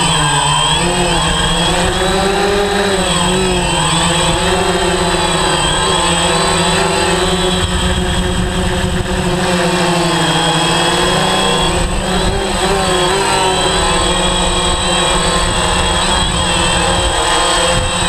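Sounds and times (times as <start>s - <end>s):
quadcopter propellers whining: 0.0s - 18.0s.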